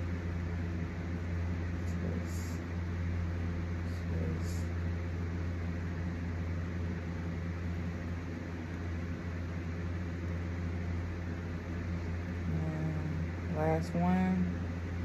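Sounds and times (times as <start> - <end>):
low mechanical hum with hiss: 0.0 - 15.0.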